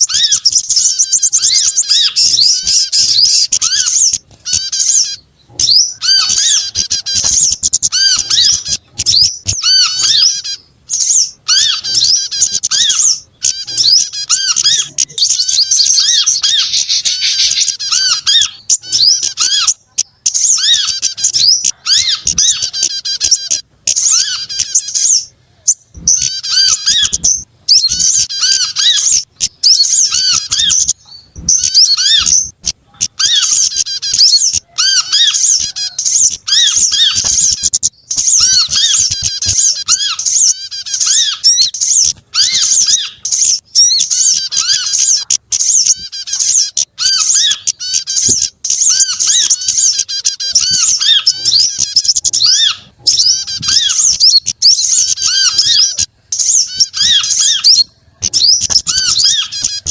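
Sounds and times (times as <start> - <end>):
repeated arched bird notes: 0.0 - 59.9
songbirds chirping and trilling: 0.0 - 59.9.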